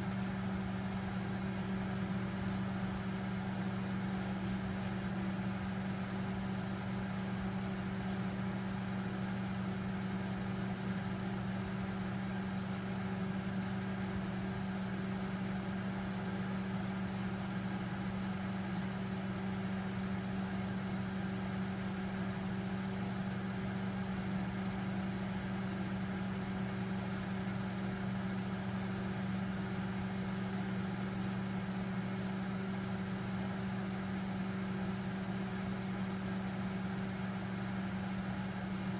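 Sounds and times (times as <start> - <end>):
microwave fan noise: 0.0 - 38.9
microwave oven humming: 0.0 - 38.9.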